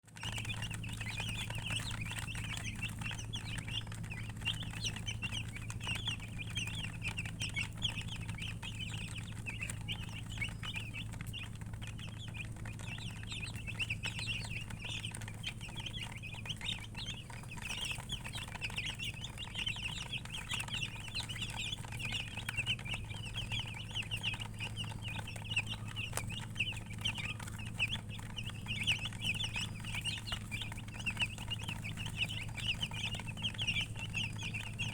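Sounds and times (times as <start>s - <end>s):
chicks peeping: 0.0s - 34.9s.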